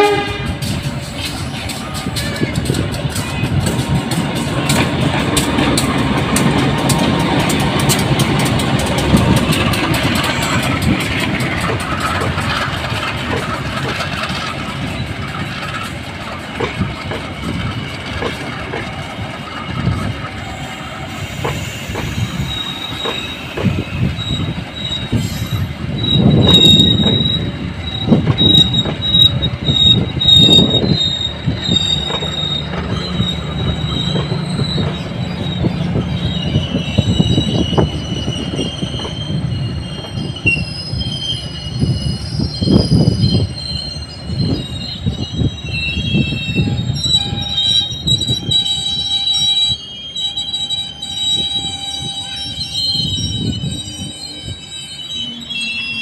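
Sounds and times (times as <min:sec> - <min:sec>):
diesel locomotive engine rumble: 0:00.0 - 0:56.0
high wheel squeal: 0:00.0 - 0:56.0
train wheels clacking on rails: 0:00.0 - 0:56.0.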